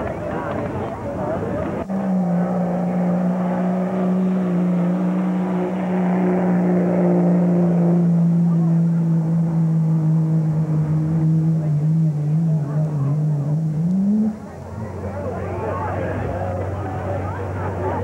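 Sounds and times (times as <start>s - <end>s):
truck engine at full throttle: 0.0s - 18.0s.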